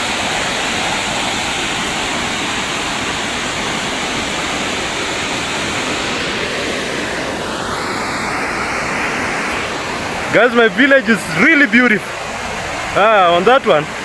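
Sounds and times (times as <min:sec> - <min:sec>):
roar of rushing water: 0:00.0 - 0:14.0.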